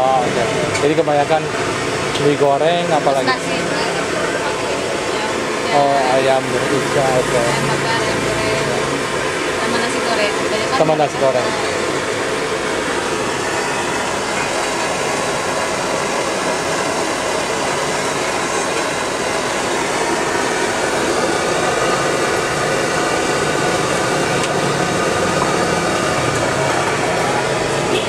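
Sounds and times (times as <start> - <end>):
gas burner roaring: 0.0 - 28.0.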